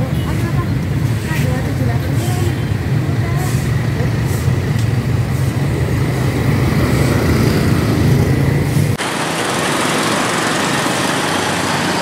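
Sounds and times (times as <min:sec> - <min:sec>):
cars and motorcycles passing: 0:00.0 - 0:12.0
hissy traffic background: 0:00.0 - 0:12.0.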